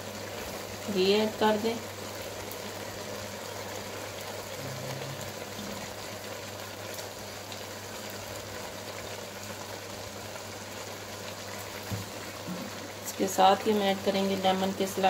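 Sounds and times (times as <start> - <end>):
pot hissing on stove: 0.0 - 15.0.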